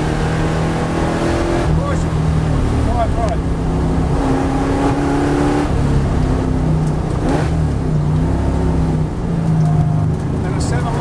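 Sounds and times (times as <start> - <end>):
car engine under load: 0.0 - 11.0
road and tyre noise: 0.0 - 11.0.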